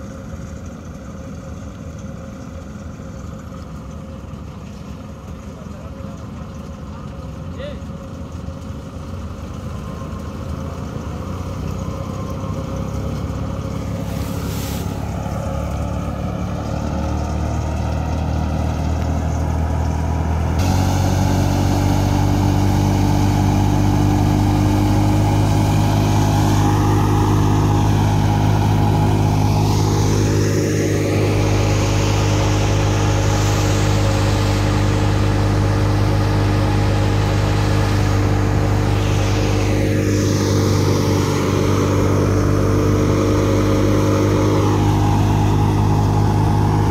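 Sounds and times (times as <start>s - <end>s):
tractor diesel engine running: 0.0s - 46.9s
thresher drum whirring: 2.7s - 46.9s.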